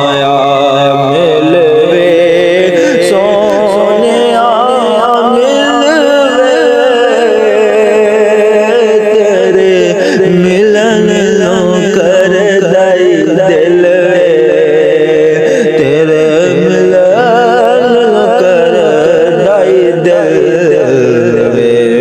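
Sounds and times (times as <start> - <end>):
wavering ornamented vocal melody: 0.0 - 22.0.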